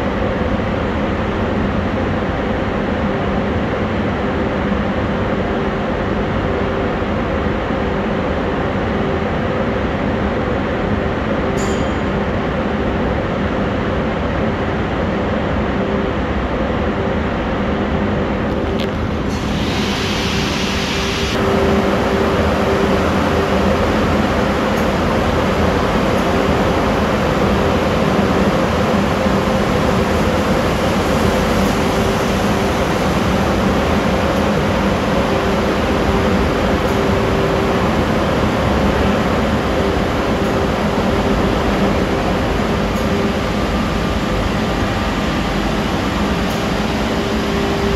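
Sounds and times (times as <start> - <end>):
car wash machinery hum: 0.0 - 47.9.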